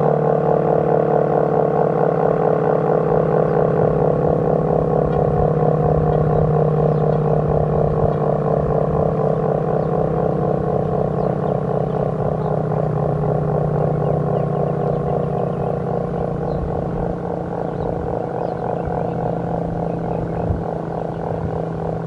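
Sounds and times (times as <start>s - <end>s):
pulsing warning siren: 0.0s - 22.0s.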